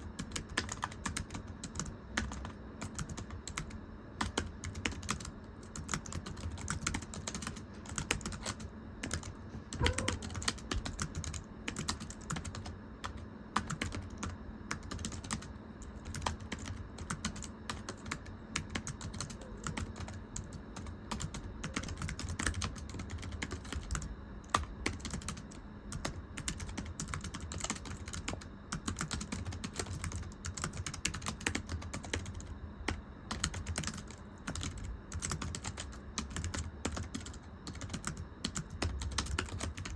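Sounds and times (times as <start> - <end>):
faint steady hum: 0.0 - 39.9
typing on thin keyboard: 0.0 - 39.9.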